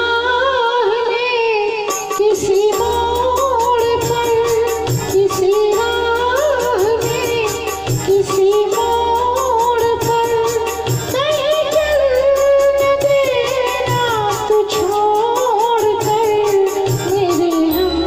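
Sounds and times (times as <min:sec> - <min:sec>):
backing track with beat and bass: 0:00.0 - 0:18.0
person singing into a microphone: 0:00.0 - 0:18.0.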